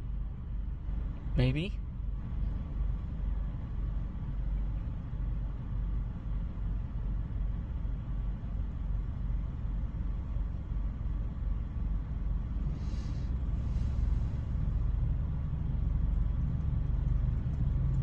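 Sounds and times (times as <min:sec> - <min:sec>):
muffled car wash rumble: 0:00.0 - 0:18.0.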